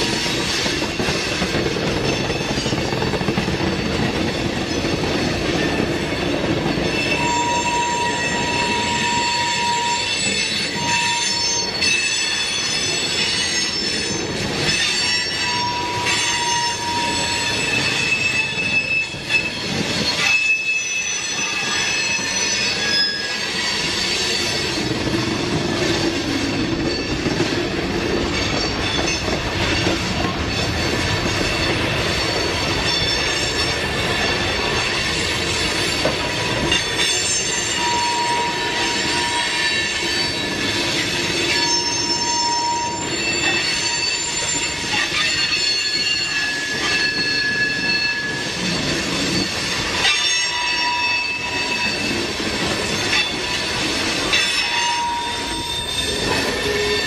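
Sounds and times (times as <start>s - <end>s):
train rumble: 0.0s - 57.0s
train wheels squealing on rails: 0.0s - 57.0s.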